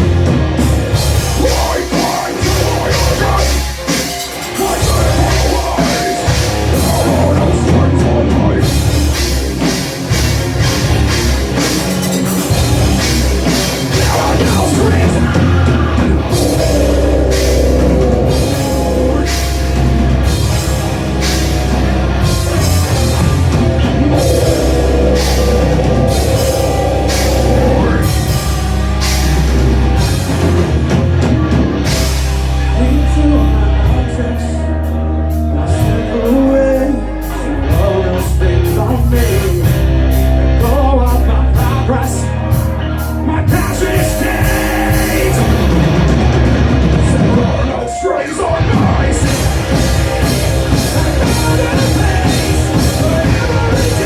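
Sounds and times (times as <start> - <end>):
drum kit beat: 0.0 - 54.0
rock band playing: 0.0 - 54.0.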